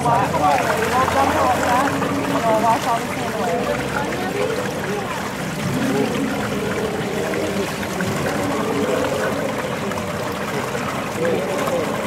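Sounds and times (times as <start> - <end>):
water trickling through a trough: 0.0 - 12.0.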